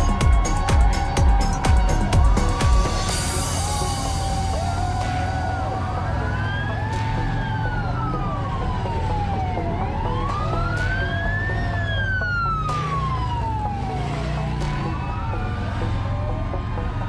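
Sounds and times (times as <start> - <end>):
siren wailing slow sweeps: 0.0 - 17.0
siren warbling tones: 0.0 - 17.0.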